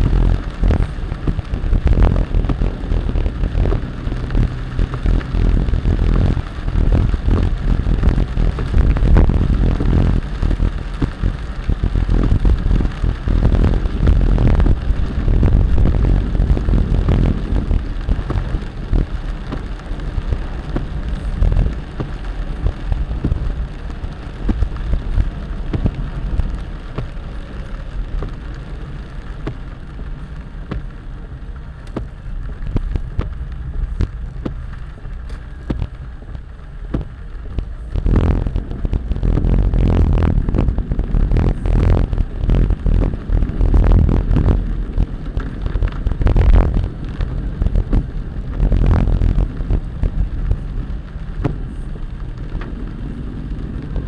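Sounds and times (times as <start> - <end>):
heavy rain falling: 0.0 - 54.0
low rumble: 0.0 - 54.0.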